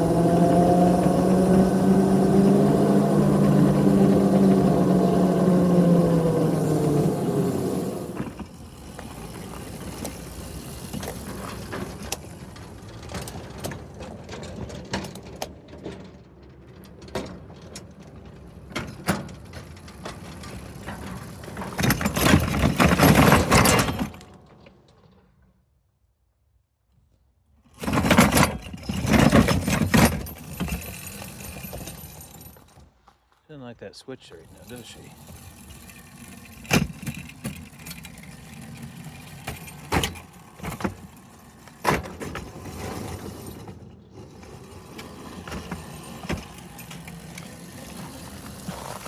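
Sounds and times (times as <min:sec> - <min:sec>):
small locomotive rattling and clattering: 0:00.0 - 0:25.8, 0:27.7 - 0:33.3, 0:34.3 - 0:49.0.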